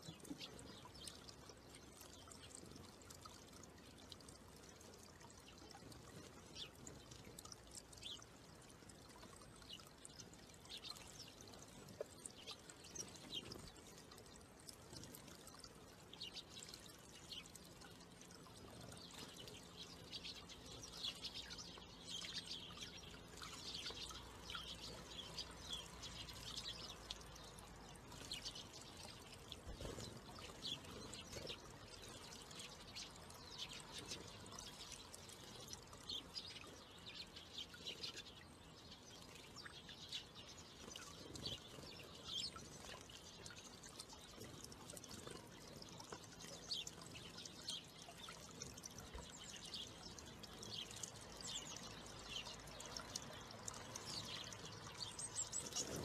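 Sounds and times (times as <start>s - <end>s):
small birds chirping: 0.0s - 56.0s
water trickling into birdbath: 0.0s - 56.0s.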